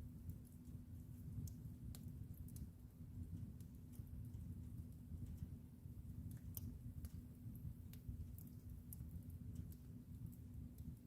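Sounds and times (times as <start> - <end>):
burning wood crackles: 0.0 - 11.0
fire flames rumbling: 0.0 - 11.0.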